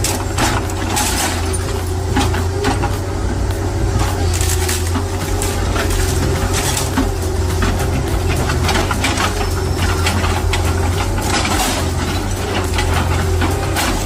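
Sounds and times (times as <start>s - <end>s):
heavy machine engine running: 0.0s - 14.0s
material cracking and crunching: 0.0s - 14.0s.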